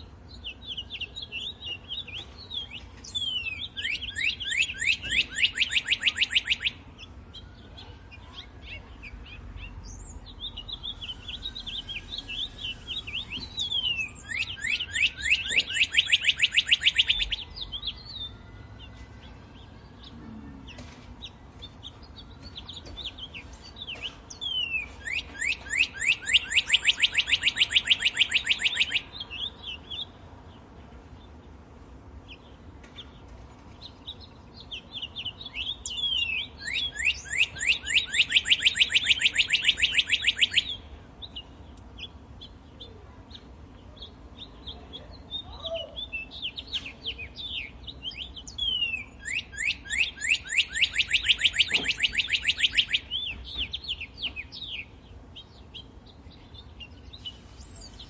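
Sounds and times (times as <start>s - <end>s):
bird singing downward notes: 0.0s - 58.0s
soft bird chirps: 0.0s - 58.0s.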